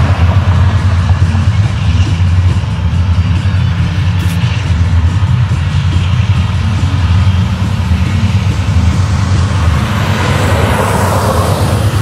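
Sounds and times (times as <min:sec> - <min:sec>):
diesel locomotive engines droning: 0:00.0 - 0:12.0
train rushing noise: 0:00.0 - 0:12.0.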